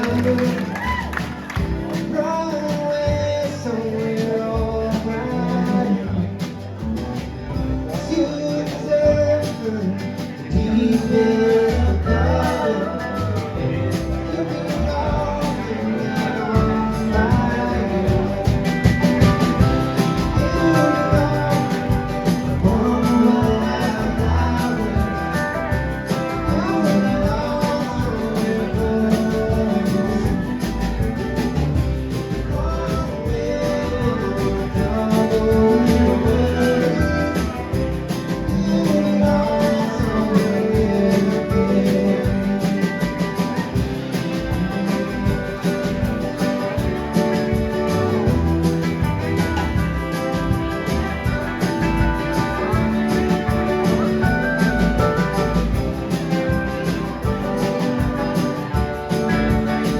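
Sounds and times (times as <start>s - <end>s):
person singing: 0.0s - 6.7s, 7.7s - 59.9s
guitar: 0.0s - 59.9s.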